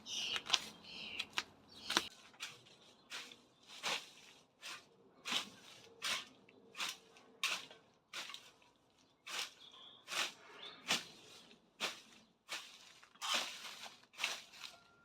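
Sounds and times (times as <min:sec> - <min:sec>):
rustling scraping garden strokes: 0:00.0 - 0:15.0.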